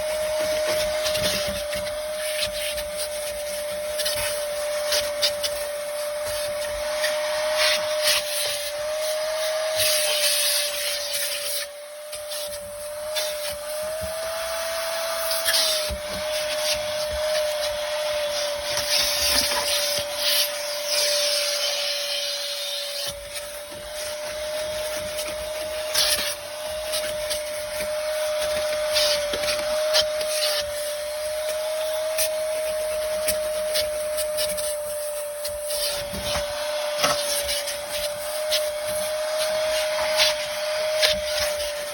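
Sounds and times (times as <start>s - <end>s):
suction hiss on carpet: 0.0s - 41.9s
vacuum cleaner motor whine: 0.0s - 41.9s.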